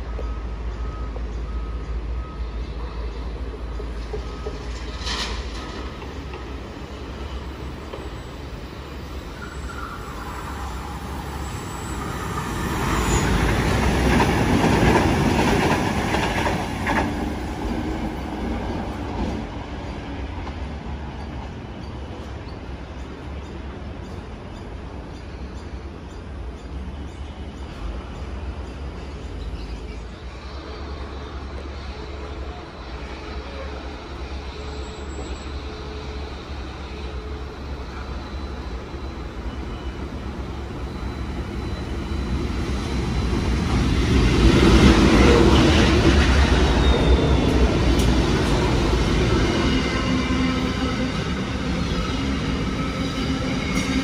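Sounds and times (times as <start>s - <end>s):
distant rail and city rumble: 0.0s - 54.0s
electric passenger train passing: 0.0s - 54.0s.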